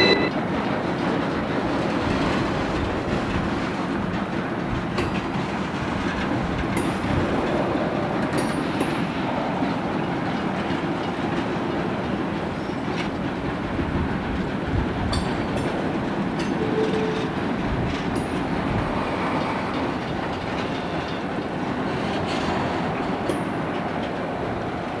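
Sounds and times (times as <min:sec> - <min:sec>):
train engines and wheels rumbling: 0:00.0 - 0:25.0
wheels clicking over rail joints: 0:00.4 - 0:25.0.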